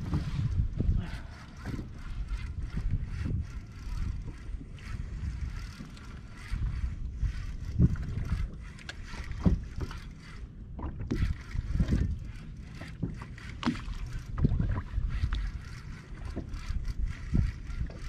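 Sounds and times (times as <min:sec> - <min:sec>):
water lapping against boat hull: 0:00.0 - 0:18.0
wind rumbling on microphone: 0:00.0 - 0:18.0.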